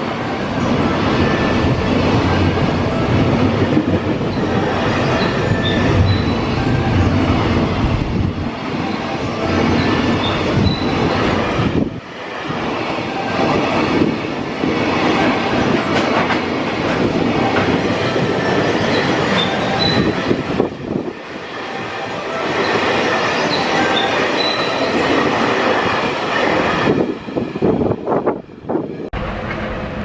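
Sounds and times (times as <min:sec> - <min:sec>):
train wheels rolling on rail: 0:00.0 - 0:30.0.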